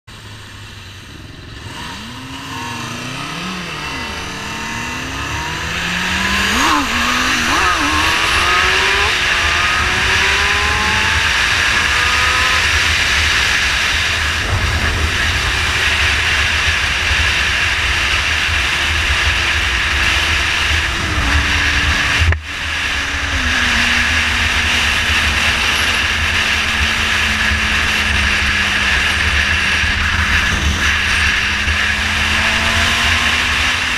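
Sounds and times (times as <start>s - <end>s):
motorcycle engine revving: 0.1s - 33.9s
wind rush on microphone: 1.1s - 33.9s.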